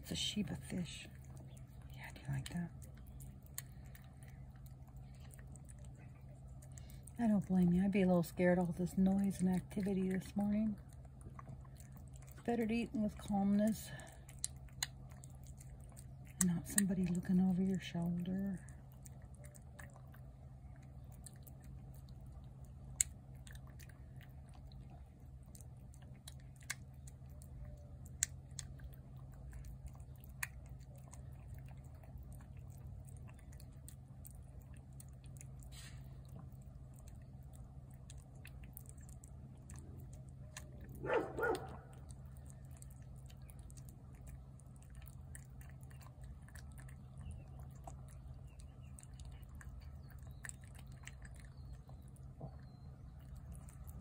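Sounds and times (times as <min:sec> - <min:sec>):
cat chewing: 0:00.0 - 0:54.0
steady low hum: 0:00.0 - 0:54.0.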